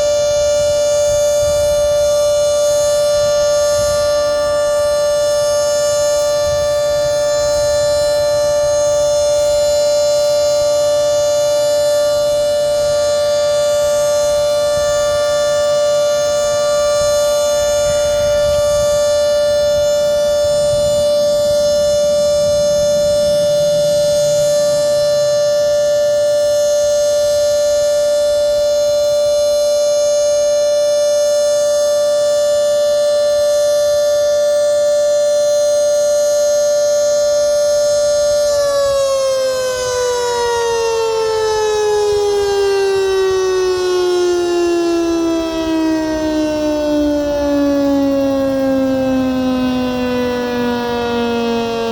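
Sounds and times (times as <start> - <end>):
two-tone siren steady chord: 0.0 - 51.9.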